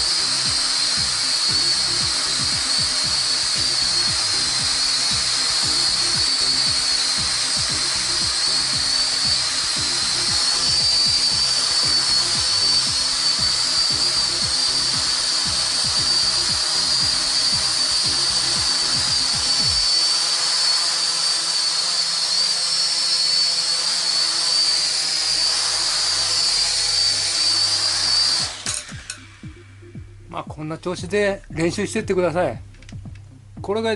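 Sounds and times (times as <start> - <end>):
toy drone high-pitched whine: 0.0 - 29.8.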